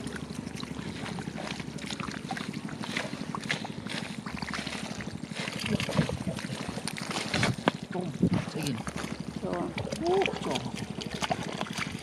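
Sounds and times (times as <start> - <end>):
small engine running: 0.0 - 12.0
splashes and clicks in mud: 0.0 - 12.0.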